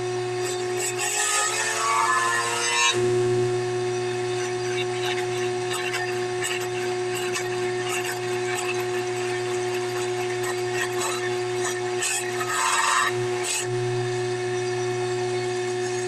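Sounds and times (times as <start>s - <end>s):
power tool motor running: 0.0s - 16.0s.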